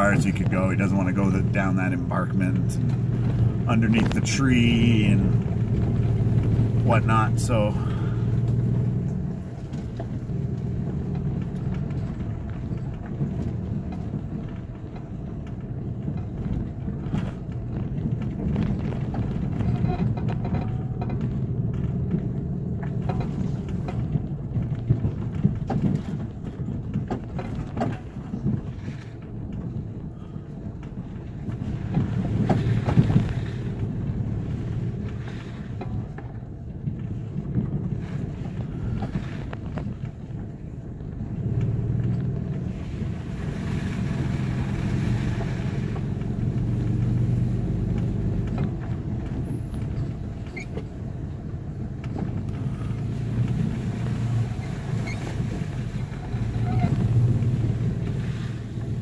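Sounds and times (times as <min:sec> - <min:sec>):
knocks and rattles in cab: 0:00.0 - 0:43.1, 0:44.1 - 0:59.0
truck engine running: 0:00.0 - 0:59.0.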